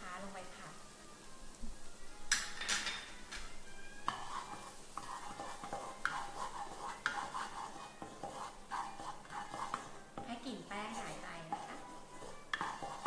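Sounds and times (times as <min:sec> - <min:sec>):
light sizzle: 0:00.0 - 0:13.0
wooden spatula scraping wok: 0:02.5 - 0:13.0.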